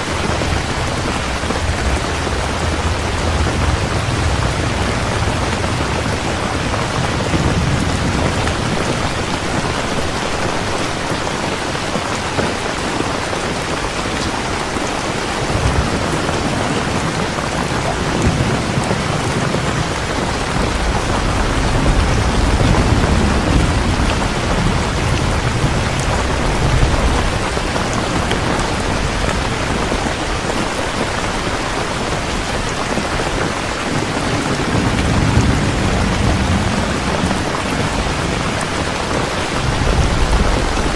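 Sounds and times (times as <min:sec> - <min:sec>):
heavy rain: 0:00.0 - 0:40.9
thunder rumbling: 0:00.0 - 0:40.9.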